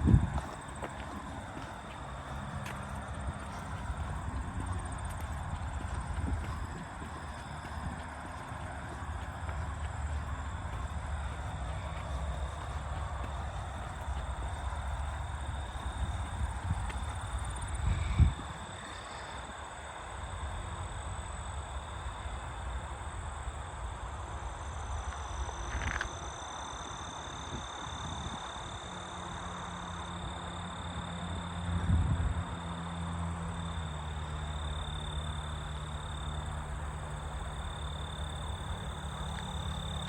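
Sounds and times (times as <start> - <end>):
insects trilling: 0.0 - 31.8, 32.5 - 40.0.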